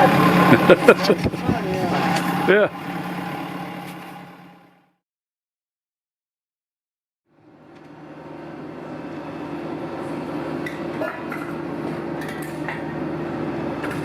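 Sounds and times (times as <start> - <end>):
engine running: 0.0 - 5.0, 7.4 - 14.0.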